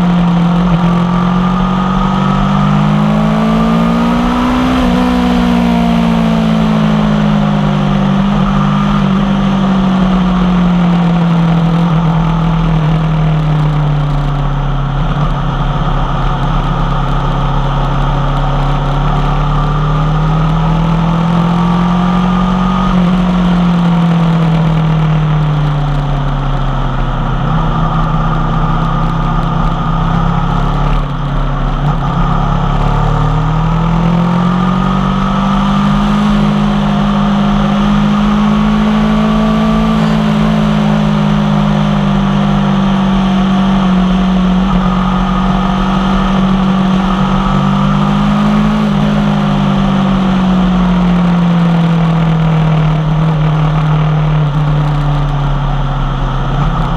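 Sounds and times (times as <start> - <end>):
motorcycle engine on road: 0.0 - 56.9.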